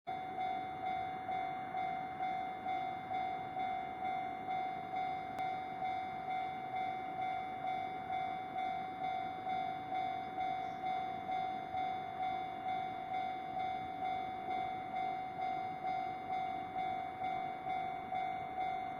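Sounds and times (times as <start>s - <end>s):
level crossing warning bell: 0.1s - 18.9s.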